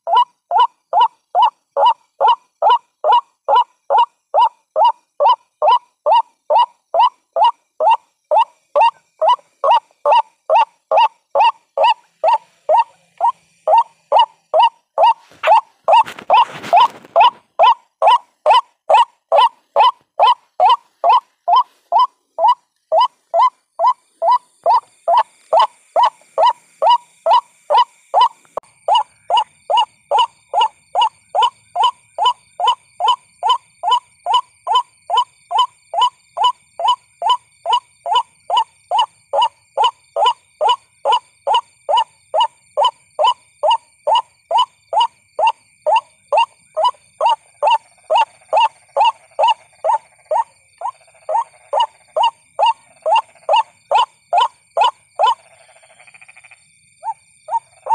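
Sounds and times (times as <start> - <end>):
waterhen repeated call: 0.0 - 57.9.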